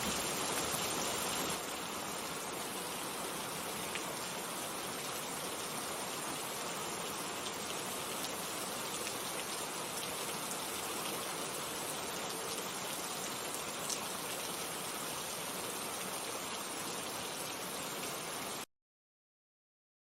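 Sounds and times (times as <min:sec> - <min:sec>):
steady rainfall: 0:00.0 - 0:18.7.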